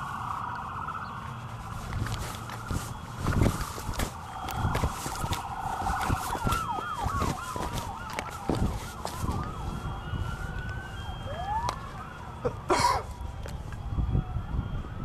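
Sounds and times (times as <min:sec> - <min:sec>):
emergency sirens wailing: 0:00.0 - 0:15.0.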